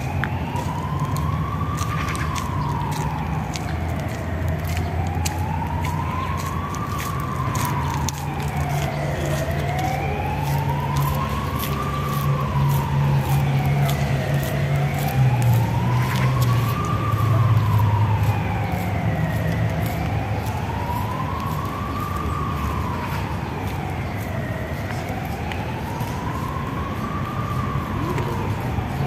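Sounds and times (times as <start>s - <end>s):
emergency siren wailing: 0.0s - 29.0s
road traffic rumble: 0.0s - 29.0s.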